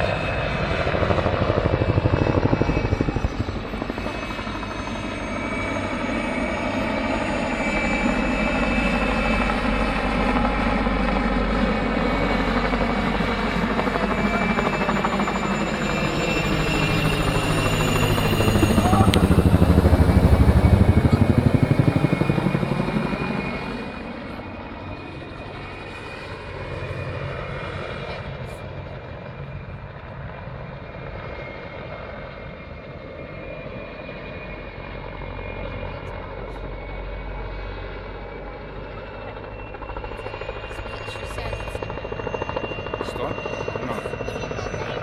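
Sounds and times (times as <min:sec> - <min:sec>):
helicopter engine and rotor: 0:00.0 - 0:45.0.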